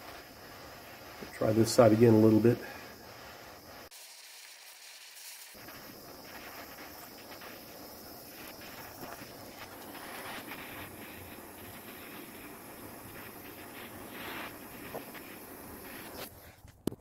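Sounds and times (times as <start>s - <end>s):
propane torch hissing: 0.0s - 16.7s.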